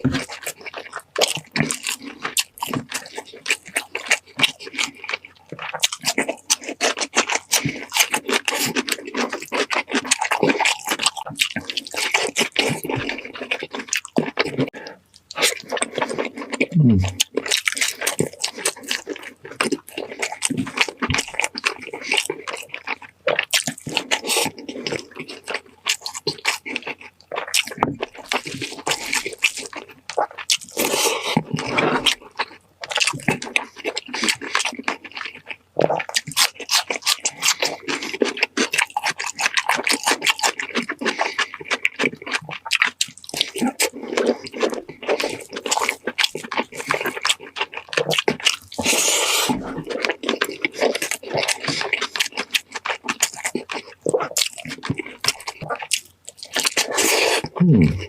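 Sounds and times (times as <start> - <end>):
wet chewing and smacking: 0.0 - 58.0.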